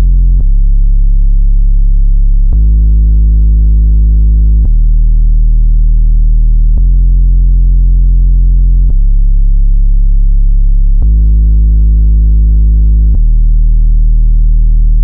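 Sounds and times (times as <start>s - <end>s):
low electronic test tone: 0.0s - 15.0s.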